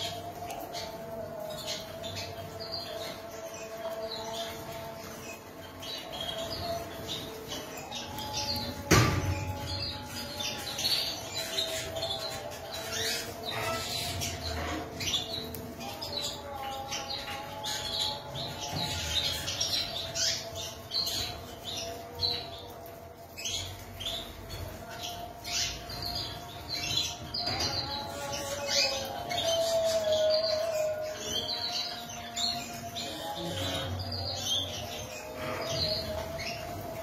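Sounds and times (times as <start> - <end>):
canaries chirping: 0.0 - 37.0.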